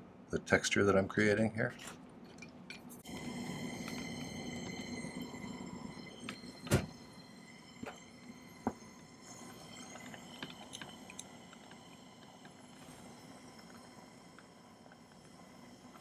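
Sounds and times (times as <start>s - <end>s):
torch flame hissing: 3.0s - 16.0s.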